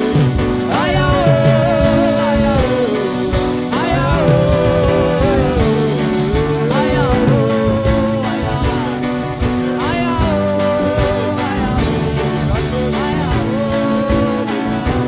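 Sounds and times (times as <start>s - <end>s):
live band playing worship music: 0.0s - 15.0s.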